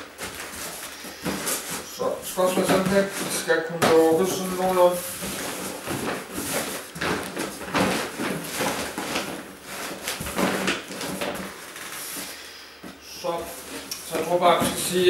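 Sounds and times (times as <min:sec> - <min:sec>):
cardboard box rustling and scraping: 0:00.0 - 0:12.4, 0:13.4 - 0:15.0.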